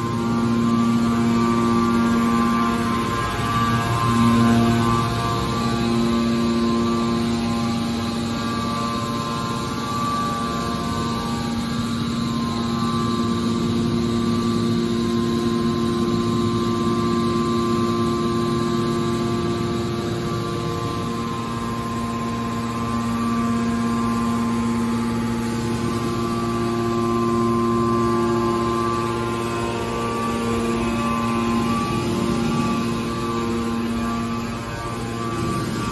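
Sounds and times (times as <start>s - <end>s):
hydraulic pump machine hum: 0.0s - 35.9s.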